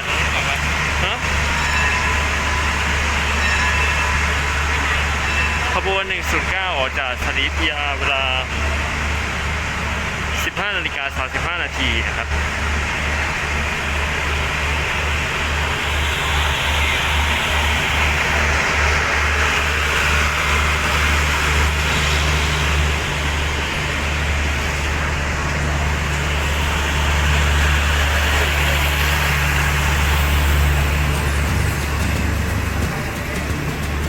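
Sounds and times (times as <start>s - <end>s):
diesel train engine drone: 0.0s - 34.0s
train wheels rattling on rails: 0.0s - 34.0s.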